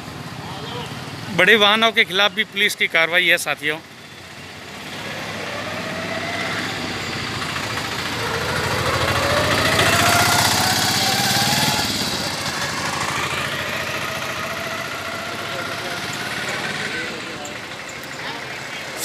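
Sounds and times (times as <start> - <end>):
auto-rickshaw engine accelerating: 0.0 - 19.0
street traffic: 0.0 - 19.0.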